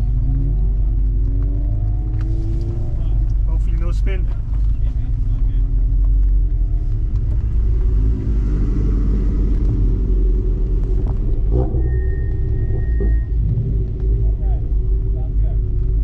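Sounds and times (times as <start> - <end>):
car engine revving: 0.0 - 16.0
road and wind rumble: 0.0 - 16.0.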